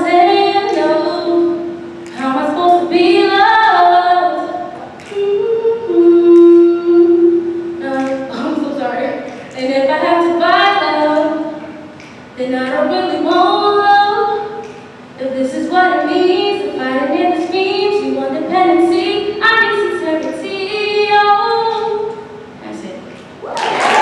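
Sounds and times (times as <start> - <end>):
person singing unaccompanied: 0.0 - 22.9.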